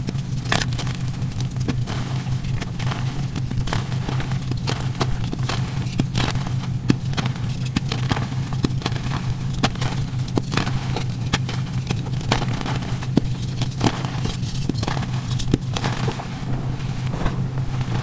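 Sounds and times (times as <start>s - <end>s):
chalk blocks crunching and crumbling: 0.0s - 18.0s.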